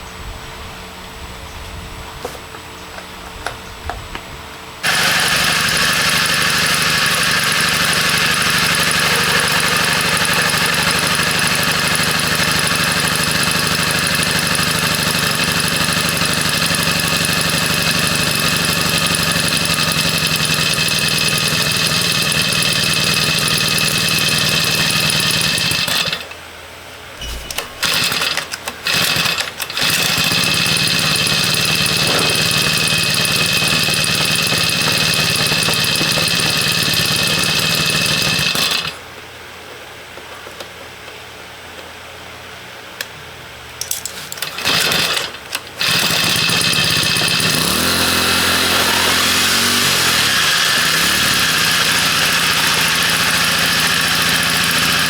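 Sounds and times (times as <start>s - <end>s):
small engine running: 4.8s - 26.3s, 27.2s - 39.0s, 44.1s - 55.0s.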